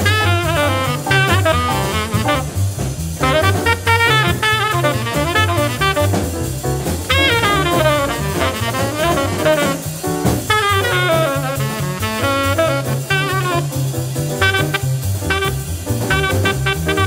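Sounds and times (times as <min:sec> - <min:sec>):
drum kit: 0:00.0 - 0:17.0
tenor saxophone improvising: 0:00.0 - 0:17.0
walking double bass: 0:00.0 - 0:17.0.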